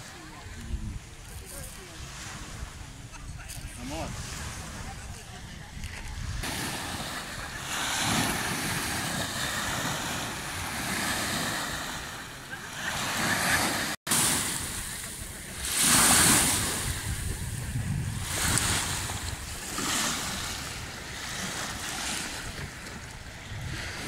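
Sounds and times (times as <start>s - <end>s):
waves lapping on sandy shore: 0.0s - 24.0s.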